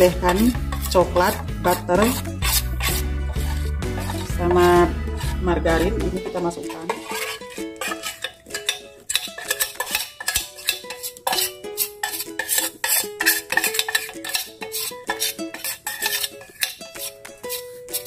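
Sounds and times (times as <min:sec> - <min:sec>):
background music: 0:00.0 - 0:18.0
spatula scraping metal bowl: 0:00.0 - 0:18.0.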